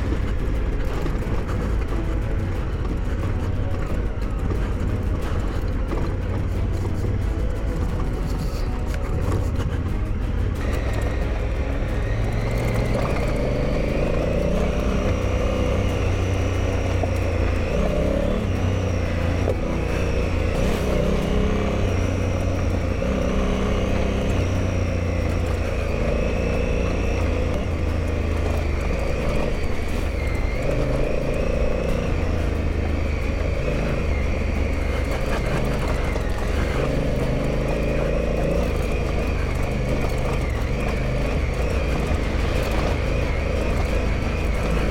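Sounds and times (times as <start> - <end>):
motorcycle engine: 0.0 - 44.9
tyres on gravel: 0.0 - 44.9.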